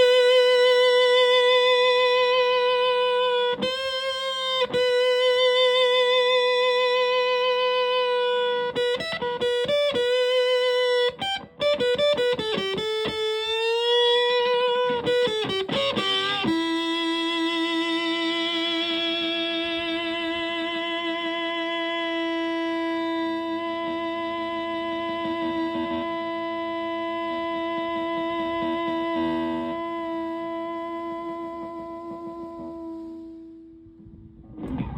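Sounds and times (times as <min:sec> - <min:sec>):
fuzz electric guitar lead: 0:00.0 - 0:34.9.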